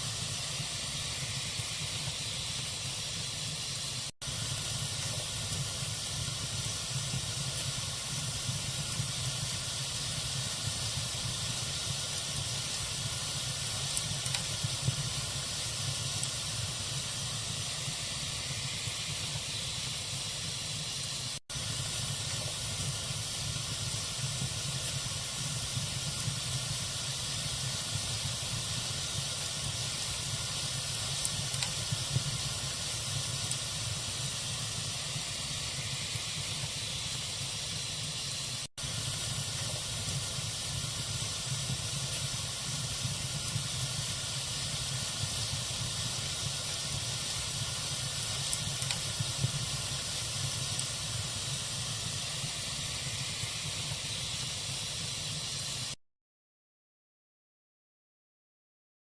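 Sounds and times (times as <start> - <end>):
log fire hissing and crackling: 0.0 - 56.0.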